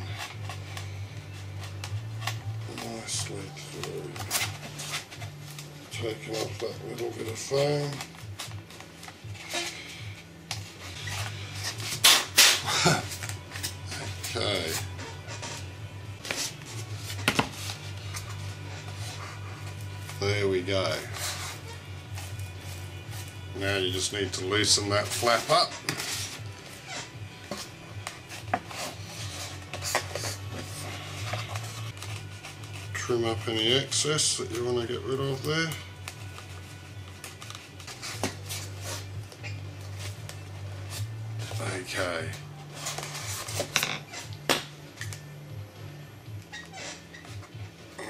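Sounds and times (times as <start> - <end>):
foam rubbing and scraping: 0.0 - 34.1, 35.1 - 44.3.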